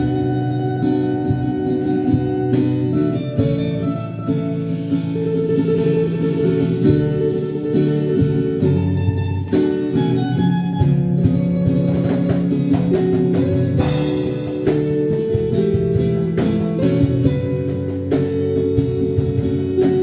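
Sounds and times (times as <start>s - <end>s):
guitar plucked and strummed: 0.0s - 20.0s.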